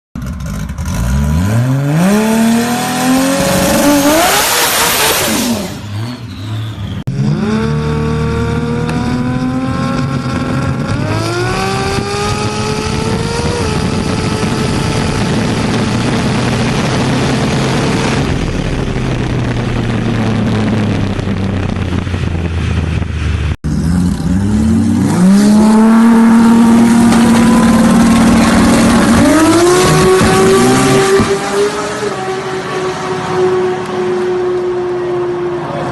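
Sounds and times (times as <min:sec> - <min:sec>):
car engine accelerating hard: 0:00.2 - 0:35.9
loud rush of noise: 0:02.0 - 0:35.9.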